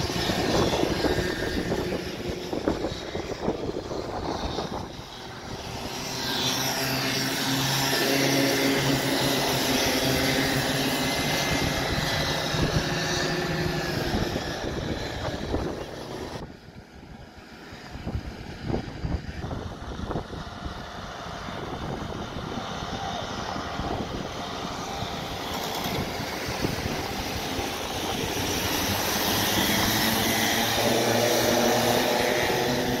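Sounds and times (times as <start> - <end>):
go-kart engines buzzing: 0.0 - 33.0.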